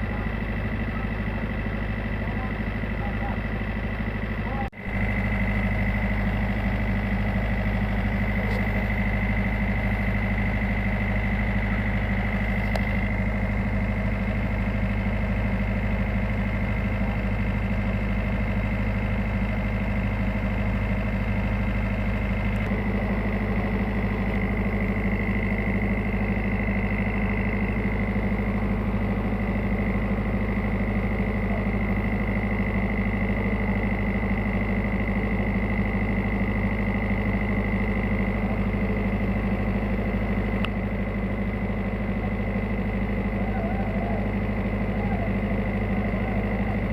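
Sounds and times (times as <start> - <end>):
boat diesel engine drone: 0.0 - 46.9.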